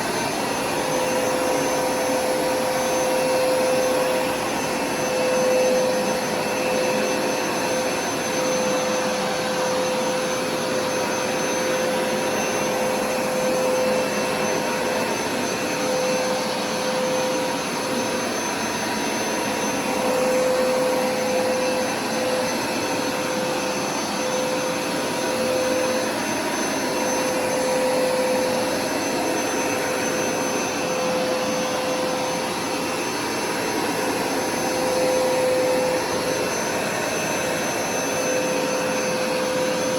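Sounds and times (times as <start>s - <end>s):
carpet cleaner suction rush: 0.0s - 39.9s.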